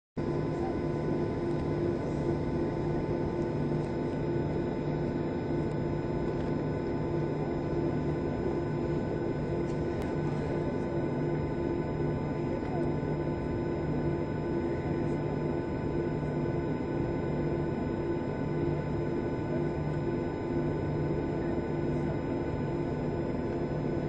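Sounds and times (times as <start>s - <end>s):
airliner cabin drone: 0.2s - 24.0s.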